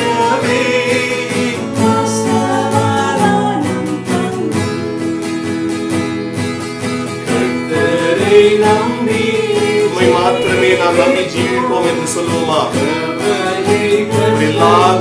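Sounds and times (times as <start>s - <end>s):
group singing worship song: 0.0s - 5.0s, 7.1s - 15.0s
acoustic guitar strumming: 0.0s - 15.0s.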